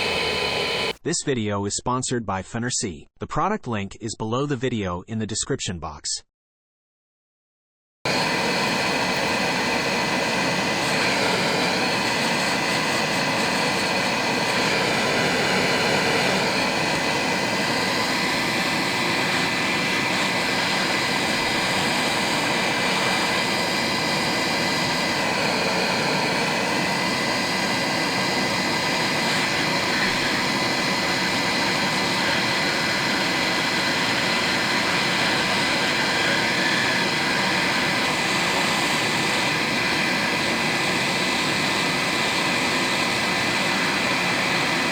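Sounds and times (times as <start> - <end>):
hot air gun blowing: 0.0 - 1.0, 8.1 - 44.9.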